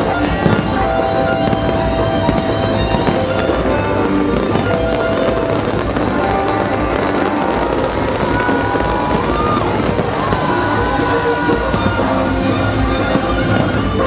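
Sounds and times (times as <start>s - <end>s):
fireworks crackling and popping: 0.0s - 14.0s
music soundtrack with held notes: 0.0s - 14.0s.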